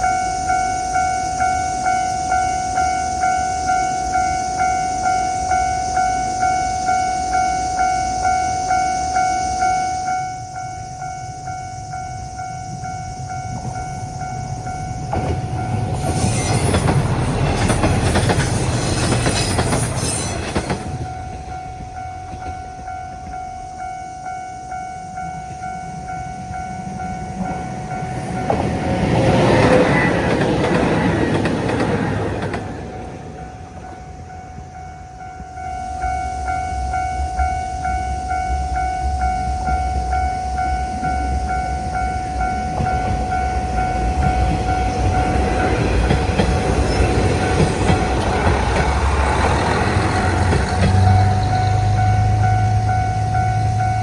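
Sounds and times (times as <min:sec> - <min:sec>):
level crossing bell clanging: 0:00.0 - 0:54.0
trains rushing past: 0:00.0 - 0:54.0.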